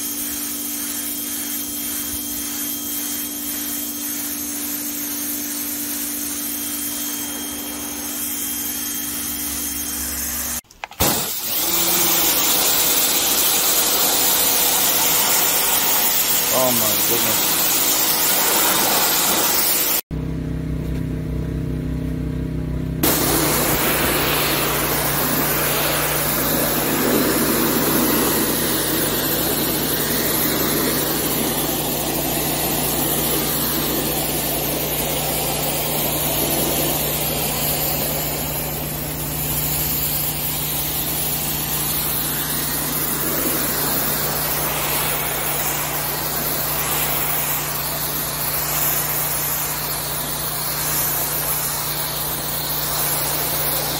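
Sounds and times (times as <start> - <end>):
water jet hissing on concrete: 0.0 - 20.1, 23.0 - 53.9
pressure washer motor running: 0.0 - 53.9.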